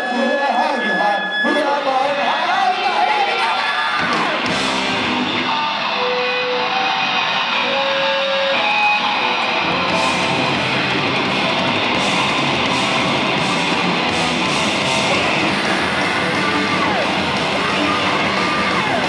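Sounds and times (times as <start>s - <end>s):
distorted electric guitars: 0.0s - 19.0s
punk band playing: 1.6s - 19.0s
drums: 2.7s - 19.0s.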